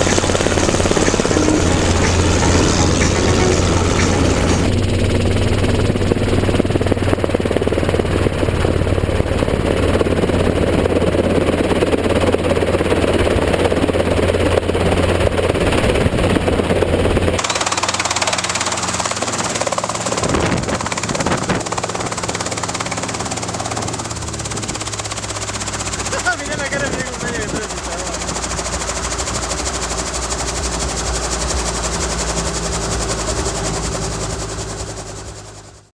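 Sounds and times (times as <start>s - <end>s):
helicopter rotor and engine drone: 0.0s - 35.9s.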